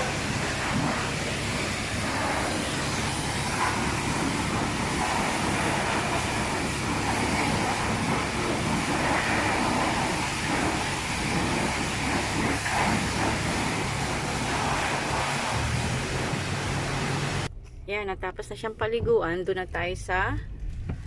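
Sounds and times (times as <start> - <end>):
water spraying on car: 0.0 - 17.5.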